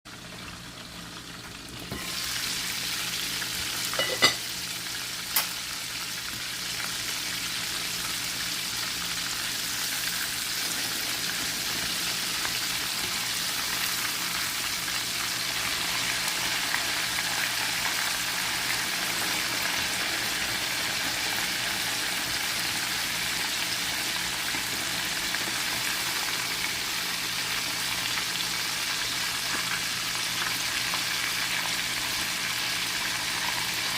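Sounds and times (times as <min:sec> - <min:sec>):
chicken frying in hot oil: 0:00.1 - 0:33.9.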